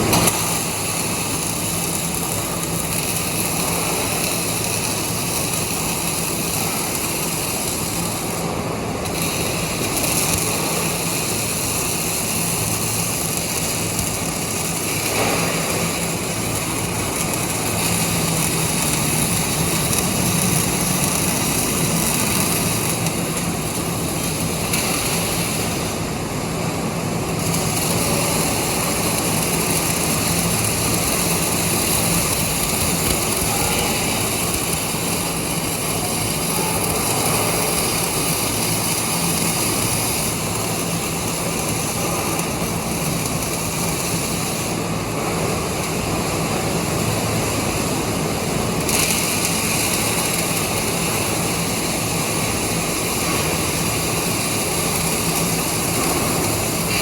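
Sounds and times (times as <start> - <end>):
steady machine noise: 0.0 - 57.0.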